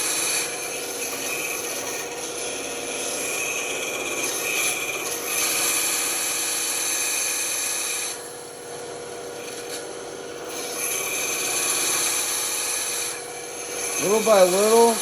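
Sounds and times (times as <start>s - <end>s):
band saw cutting wood: 0.0s - 8.2s, 10.4s - 15.0s.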